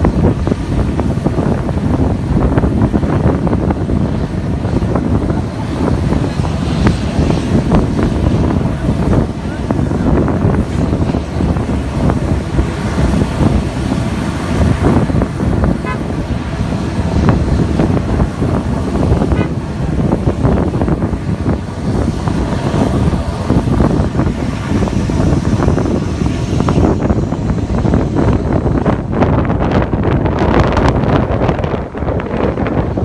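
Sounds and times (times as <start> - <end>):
jet engines at takeoff thrust: 0.0 - 33.0
wind buffeting microphone: 0.0 - 33.0.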